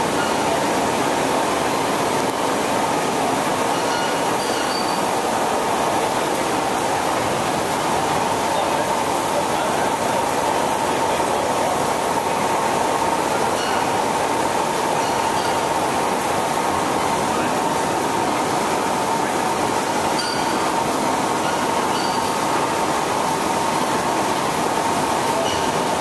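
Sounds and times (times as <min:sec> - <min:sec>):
liquid spraying inside a drum: 0:00.0 - 0:26.0
loud steady machine noise: 0:00.0 - 0:26.0.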